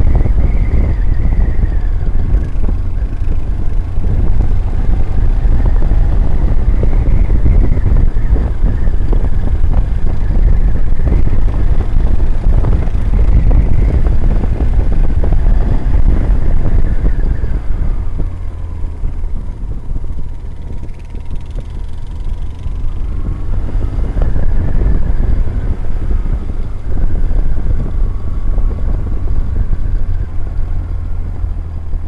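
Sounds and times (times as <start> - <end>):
motorcycle engine running: 0.0 - 32.0
wind buffeting a helmet camera: 0.0 - 32.0.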